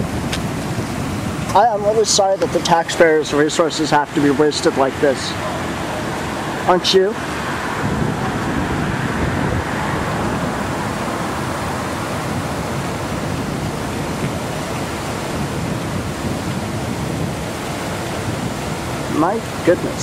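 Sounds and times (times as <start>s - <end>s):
street traffic: 0.0s - 20.0s
wind on microphone: 0.0s - 20.0s.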